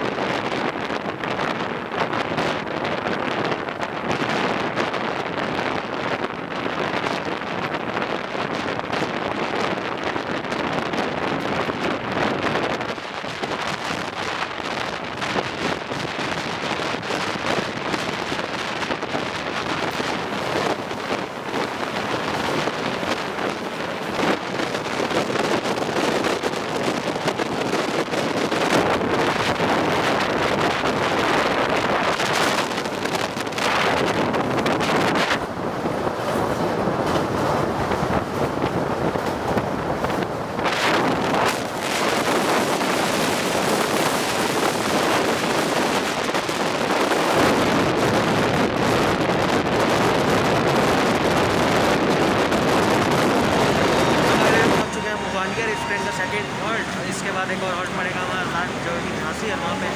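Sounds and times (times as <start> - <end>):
train wheels rumbling and clattering: 0.0 - 59.9
wind buffeting microphone: 0.0 - 59.9.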